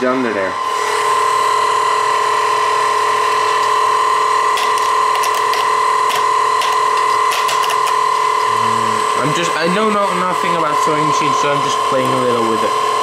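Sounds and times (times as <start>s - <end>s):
sewing machine motor whine: 0.0s - 13.0s.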